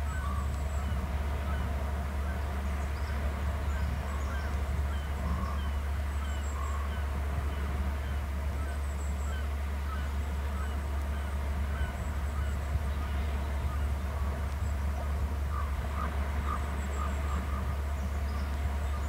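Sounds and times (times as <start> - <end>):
lower bird calls: 0.0 - 19.0
steady low hum: 0.0 - 19.0.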